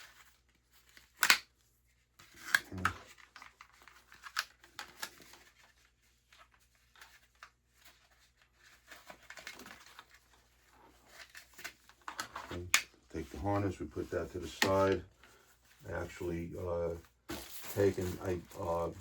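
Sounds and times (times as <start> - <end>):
straps rustling: 2.2 - 19.0.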